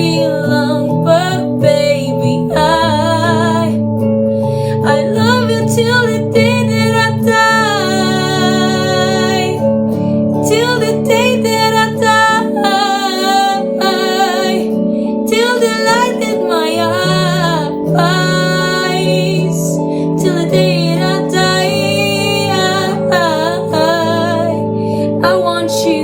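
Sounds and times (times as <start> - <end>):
woman singing: 0.0 - 3.8, 4.6 - 9.7, 10.4 - 26.0
acoustic guitar: 0.0 - 26.0.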